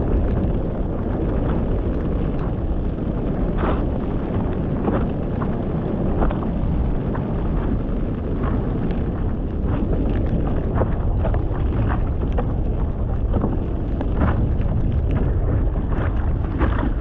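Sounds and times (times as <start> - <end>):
short crackles: 0.0 - 17.0
wind buffeting microphone: 0.0 - 17.0.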